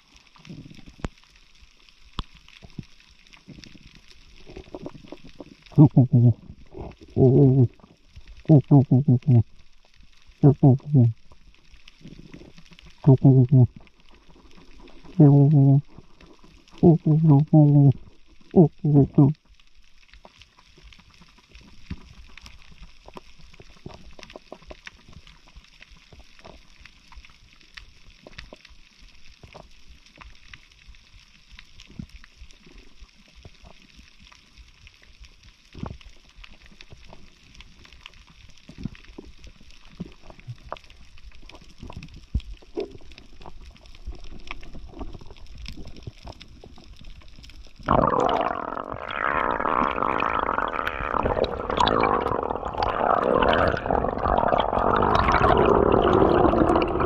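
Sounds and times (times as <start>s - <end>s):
small clicks and crackles: 0.0s - 8.6s, 9.4s - 10.4s, 11.1s - 15.2s, 15.8s - 16.9s, 17.9s - 57.0s.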